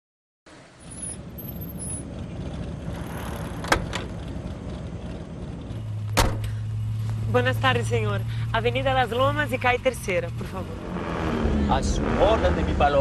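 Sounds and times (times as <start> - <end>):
car engine rumbling: 0.5 - 13.0.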